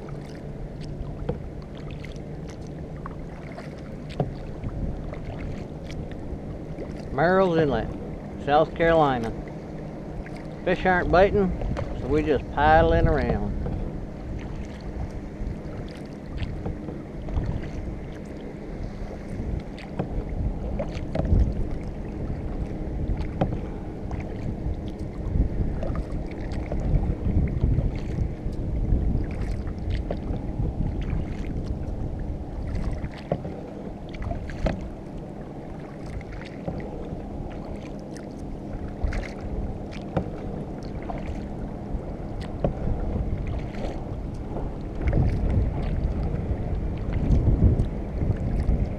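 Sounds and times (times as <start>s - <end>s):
paddle strokes in water: 0.0s - 48.9s
wind on microphone: 0.0s - 48.9s.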